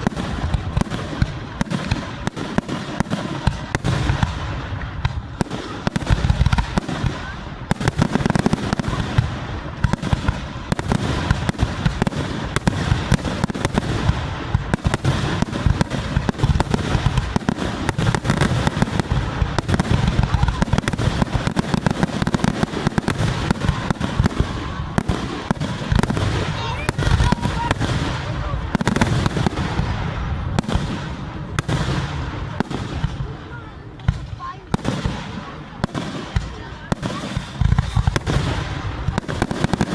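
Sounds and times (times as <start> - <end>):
fireworks crackling and booming: 0.0 - 39.9.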